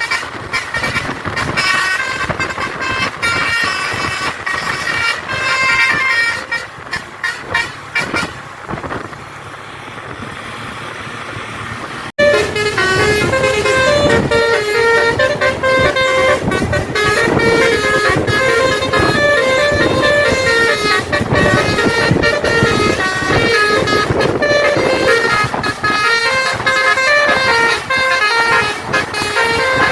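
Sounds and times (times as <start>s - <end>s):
bus musical air horn: 0.0s - 8.9s, 12.2s - 29.9s
road noise: 0.0s - 29.9s.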